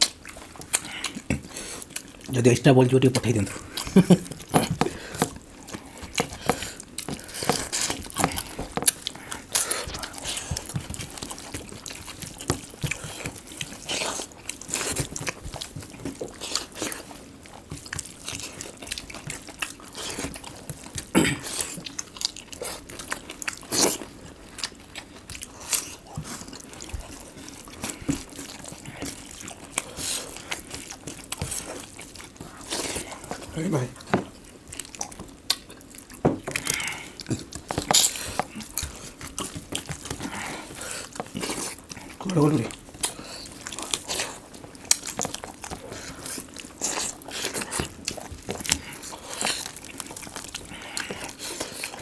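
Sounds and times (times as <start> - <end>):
wet chewing and mouth smacks: 0.0 - 52.0.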